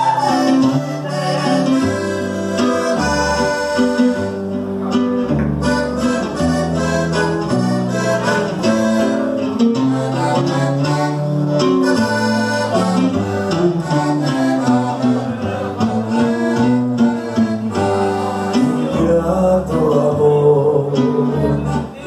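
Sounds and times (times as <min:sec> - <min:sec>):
accordion melody: 0:00.0 - 0:22.0
bass notes: 0:00.0 - 0:22.0
strummed acoustic guitar: 0:00.0 - 0:22.0.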